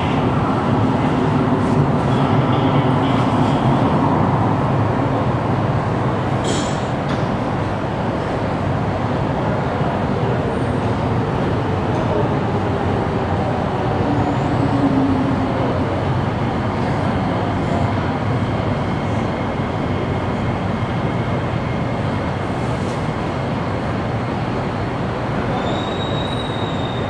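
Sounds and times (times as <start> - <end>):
high whine from train wheels: 0.0 - 27.0
train rumbling: 0.0 - 27.0.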